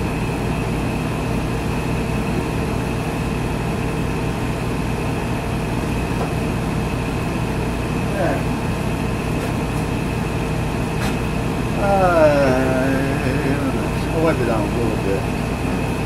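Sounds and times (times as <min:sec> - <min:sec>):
machine droning: 0:00.0 - 0:16.0.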